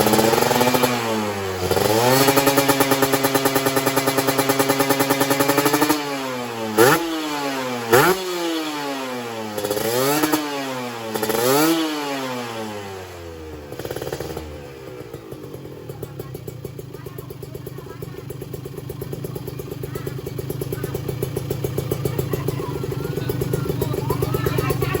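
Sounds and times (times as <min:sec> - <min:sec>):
two-stroke motorcycle engine revving: 0:00.0 - 0:25.0.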